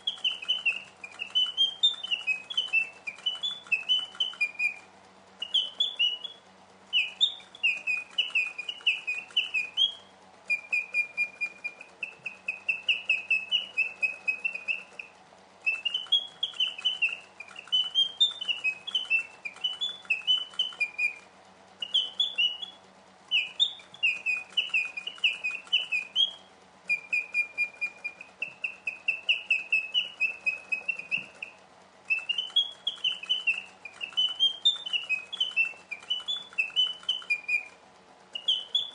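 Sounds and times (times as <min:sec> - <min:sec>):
mechanical bird song whistling: 0:00.0 - 0:38.9.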